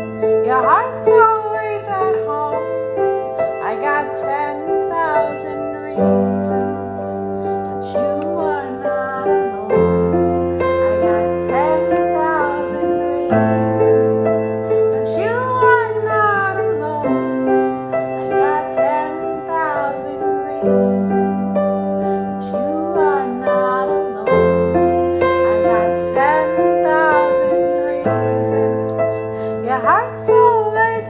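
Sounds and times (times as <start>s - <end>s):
sustained keyboard chords: 0.0s - 31.0s.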